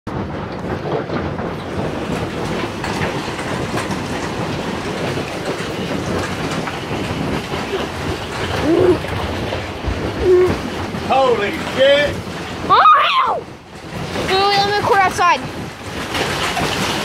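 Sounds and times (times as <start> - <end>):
hail clattering on roof and walls: 0.1 - 17.0
rushing noise: 0.1 - 17.0.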